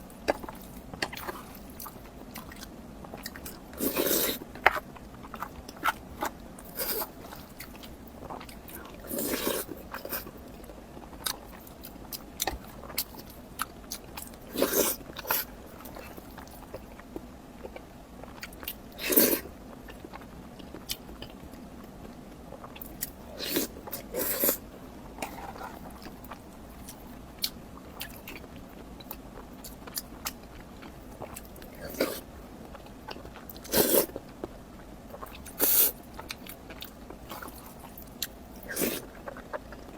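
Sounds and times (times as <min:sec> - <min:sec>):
person chewing: 0:00.2 - 0:34.5, 0:35.1 - 0:39.9.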